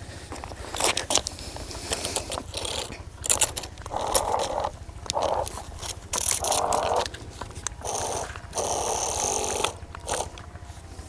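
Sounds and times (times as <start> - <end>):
cardboard model scraping and clicking: 0.5 - 10.4.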